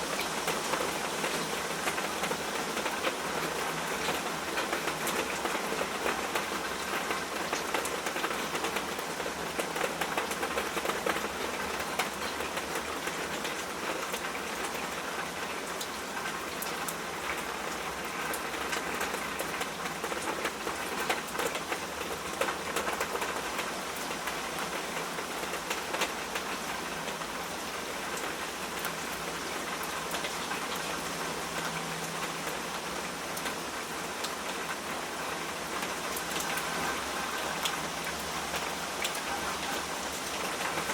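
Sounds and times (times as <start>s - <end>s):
rain pattering on hard surface: 0.0s - 40.9s.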